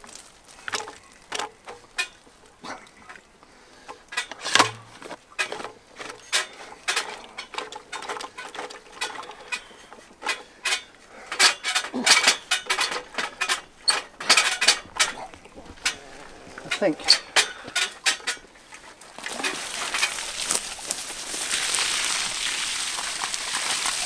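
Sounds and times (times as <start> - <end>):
plastic pipe fittings clicking and creaking: 0.0 - 21.6.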